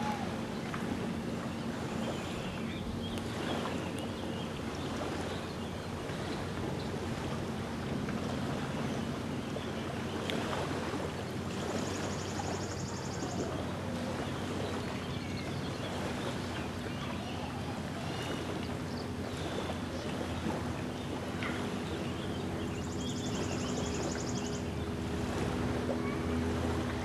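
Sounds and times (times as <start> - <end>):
distant motorboat engine: 0.0 - 27.0
waves lapping at shore: 0.0 - 27.0.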